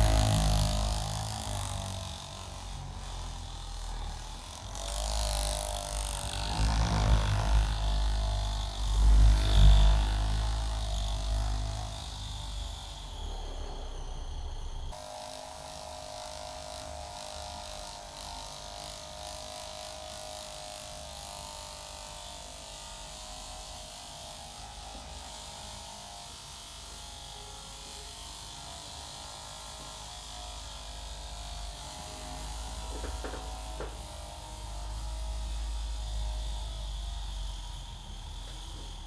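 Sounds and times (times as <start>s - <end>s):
small electric motor buzzing: 0.0s - 39.0s.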